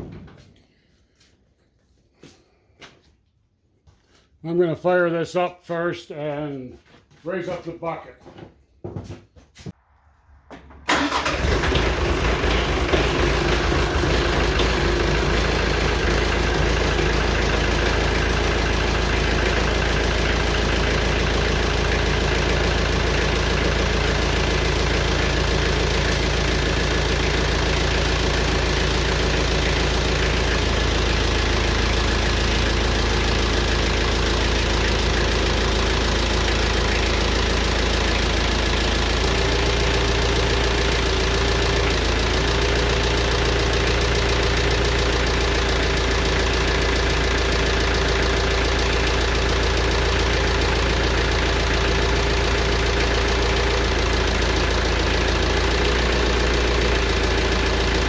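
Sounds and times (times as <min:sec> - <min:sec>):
tractor diesel engine running: 0:10.5 - 0:58.0.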